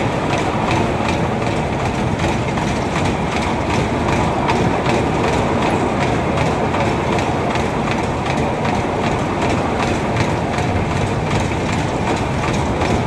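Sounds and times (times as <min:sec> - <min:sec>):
fast even clatter: 0:00.0 - 0:13.0
ride cars rumbling on rails: 0:00.0 - 0:13.0.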